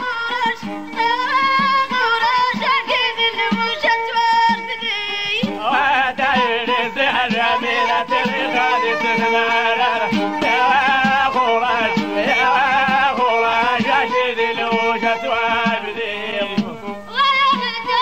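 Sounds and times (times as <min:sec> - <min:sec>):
wavering folk melody: 0:00.0 - 0:18.0.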